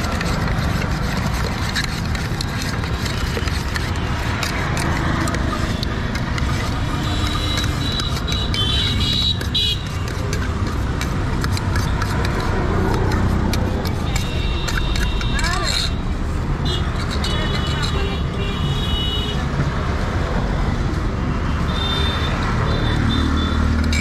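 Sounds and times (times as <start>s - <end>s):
spoon scraping steel tin: 0.0s - 18.7s, 23.0s - 24.0s
road traffic rumble: 0.0s - 24.0s.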